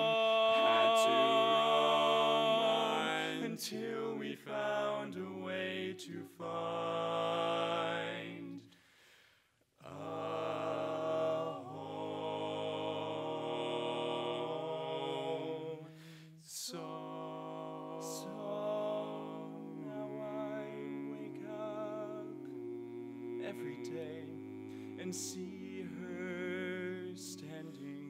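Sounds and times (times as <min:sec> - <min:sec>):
male quartet singing a cappella: 0:00.0 - 0:08.8, 0:09.8 - 0:28.0.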